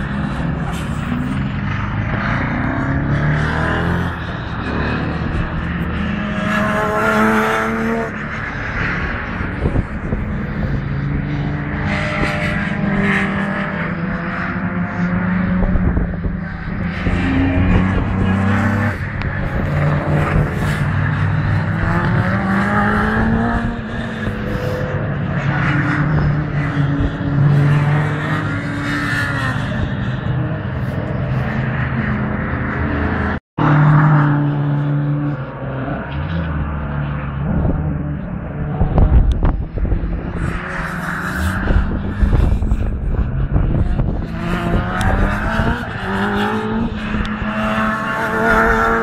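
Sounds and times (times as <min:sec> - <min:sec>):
race car engines at full throttle: 0:00.0 - 0:49.0.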